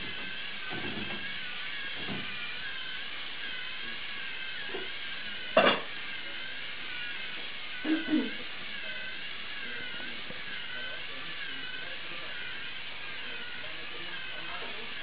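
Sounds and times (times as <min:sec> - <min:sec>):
servo motors whining: 0:00.0 - 0:15.0.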